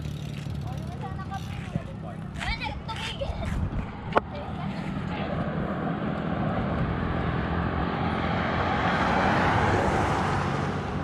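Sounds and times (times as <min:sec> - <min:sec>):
pickup truck passing: 0:00.0 - 0:11.0.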